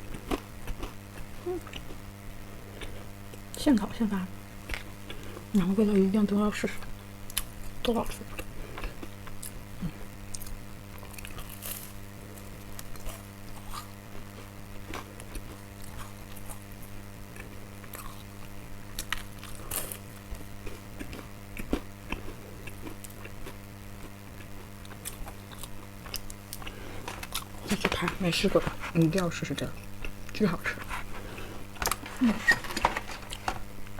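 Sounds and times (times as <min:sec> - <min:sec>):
biting and chewing biscuits: 0:00.0 - 0:03.5, 0:06.8 - 0:33.9
steady low hum: 0:00.0 - 0:33.9.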